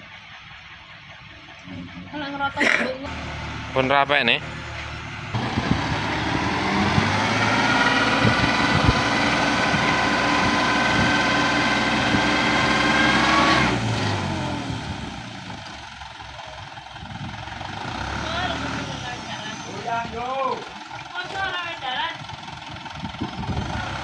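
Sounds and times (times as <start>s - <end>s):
excavator whining under load: 3.1s - 21.1s, 22.2s - 24.0s.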